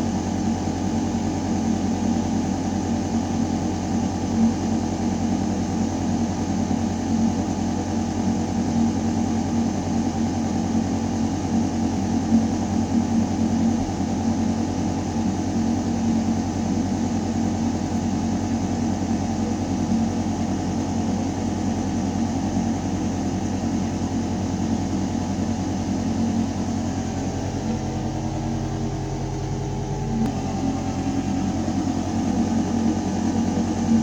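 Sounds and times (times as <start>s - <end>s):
ventilation system humming: 0.0s - 34.0s.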